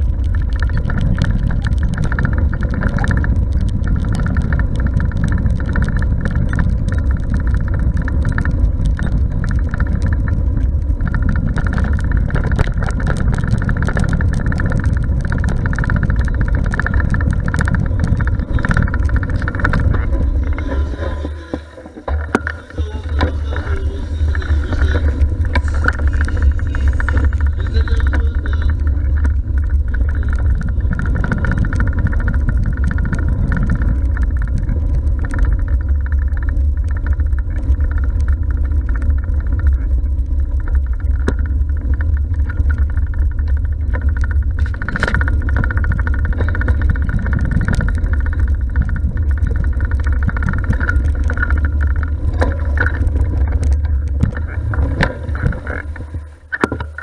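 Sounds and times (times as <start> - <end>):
bicycle road noise: 0.0 - 57.0
wind rumble on microphone: 0.0 - 57.0.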